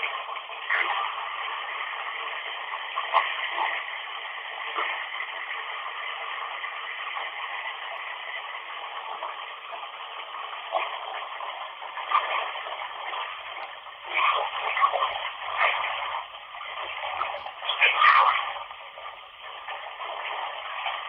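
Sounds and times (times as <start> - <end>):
running water hissing: 0.0 - 21.0.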